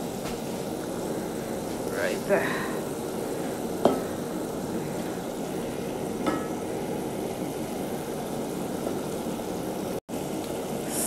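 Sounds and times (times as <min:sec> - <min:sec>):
onions sizzling and bubbling in pot: 0:00.0 - 0:11.0.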